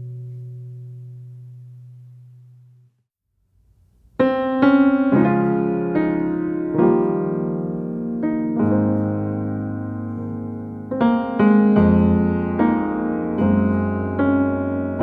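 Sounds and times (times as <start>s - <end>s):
piano music: 0.0s - 2.6s, 4.2s - 15.0s.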